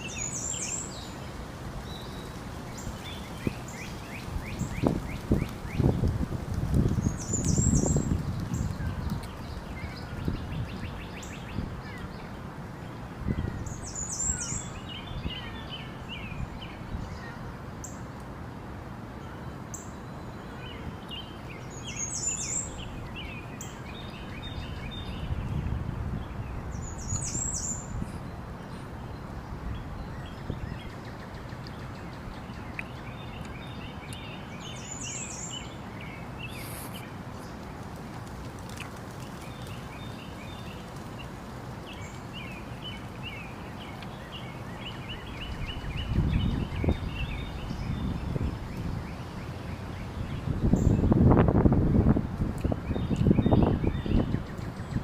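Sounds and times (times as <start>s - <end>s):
low background noise: 0.0s - 55.0s.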